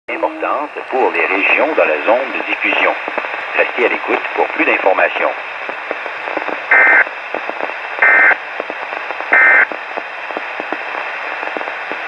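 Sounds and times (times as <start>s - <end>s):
radio static with crackles: 0.1s - 12.0s.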